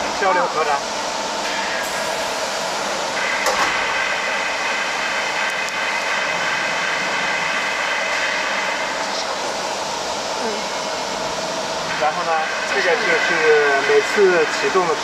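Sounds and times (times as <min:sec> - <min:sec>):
furnace hiss and hum: 0:00.0 - 0:15.0.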